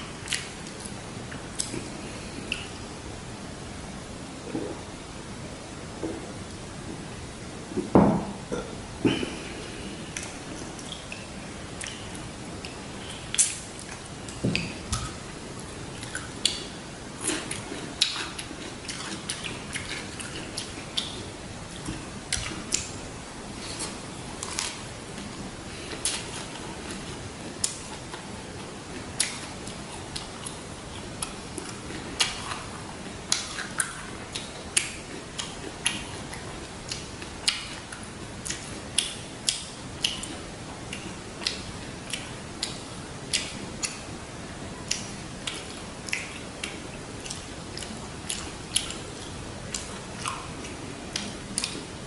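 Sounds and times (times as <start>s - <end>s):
chewing crunchy lettuce: 9.3s - 52.0s.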